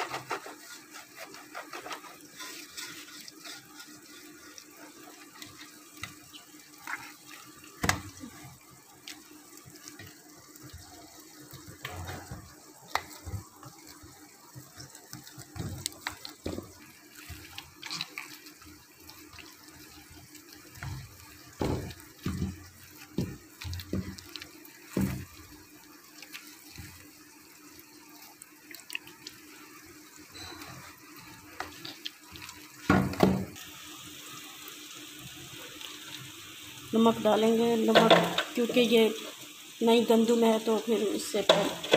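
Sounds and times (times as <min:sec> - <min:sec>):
dough squelching and slapping metal: 0:00.0 - 0:33.8, 0:35.2 - 0:41.9.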